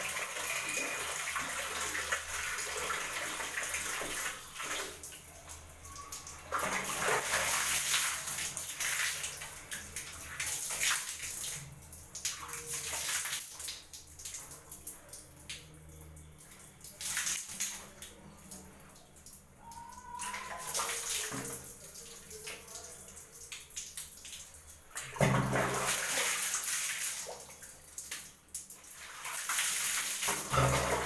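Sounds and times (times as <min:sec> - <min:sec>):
water poured and splashing: 0:00.0 - 0:31.0.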